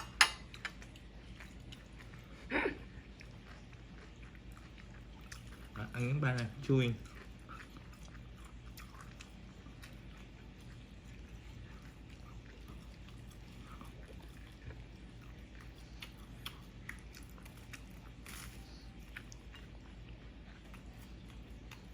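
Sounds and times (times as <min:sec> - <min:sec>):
low steady background hum: 0:00.0 - 0:21.9
toddler chewing: 0:00.5 - 0:21.9.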